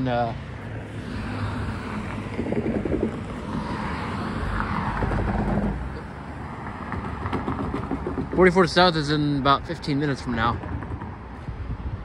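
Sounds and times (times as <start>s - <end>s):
car passing: 0.0s - 12.0s
wind buffeting microphone: 0.0s - 12.0s.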